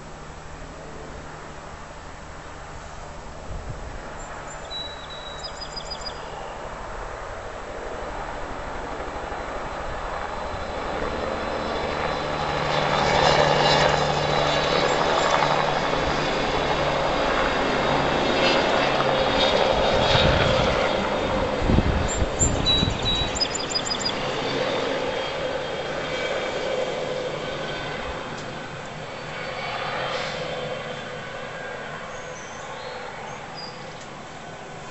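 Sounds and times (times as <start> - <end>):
low-flying aircraft engine drone: 0.0 - 34.9.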